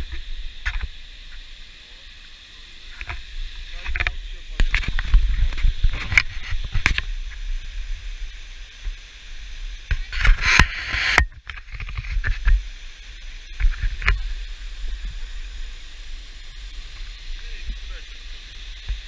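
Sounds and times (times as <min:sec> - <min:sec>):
wind on microphone: 0:03.0 - 0:19.0.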